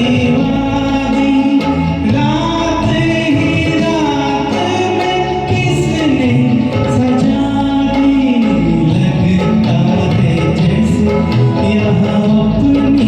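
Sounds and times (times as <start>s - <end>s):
person singing karaoke: 0.0s - 13.0s
recorded instrumental backing track: 0.0s - 13.0s.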